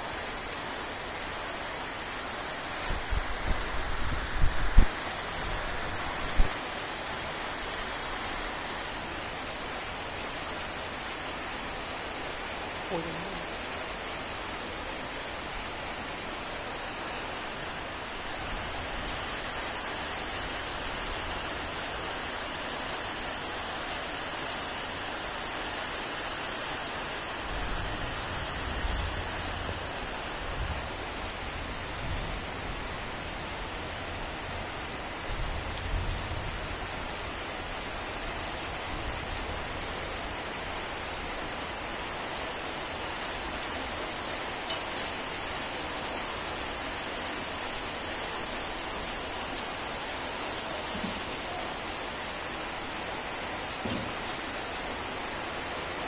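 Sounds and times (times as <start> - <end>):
rain falling on trees: 0.0 - 56.0.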